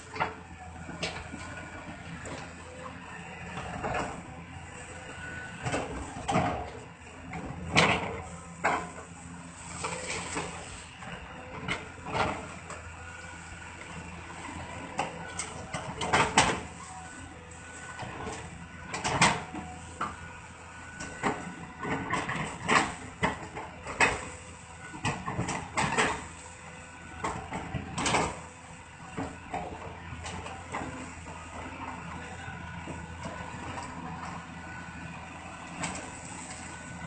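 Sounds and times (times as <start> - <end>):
heavy engine running: 0.0 - 37.0.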